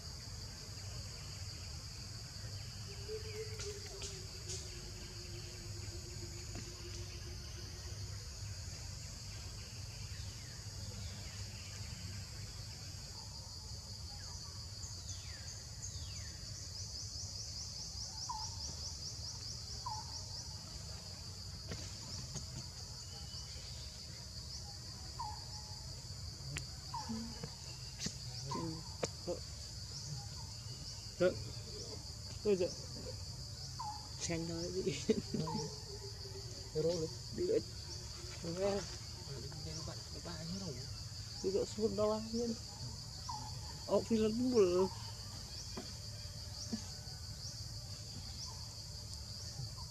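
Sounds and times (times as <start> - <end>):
insects droning: 0.0 - 49.9.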